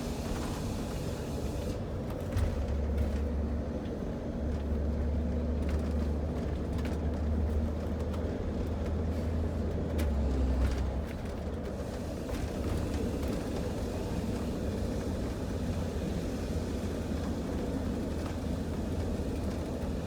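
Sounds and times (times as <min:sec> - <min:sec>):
vehicle engine and road drone: 0:00.0 - 0:20.0.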